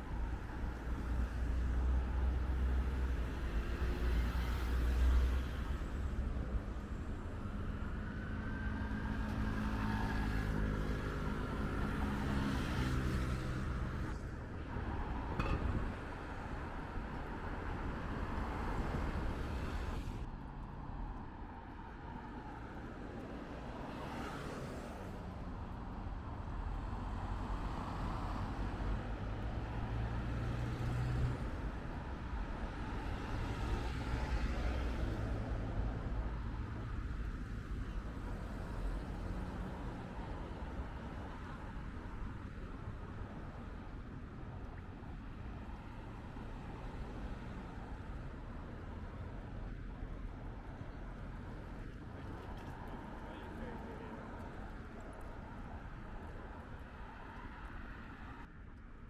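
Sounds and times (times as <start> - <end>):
cars driving past: 7.0 - 58.6.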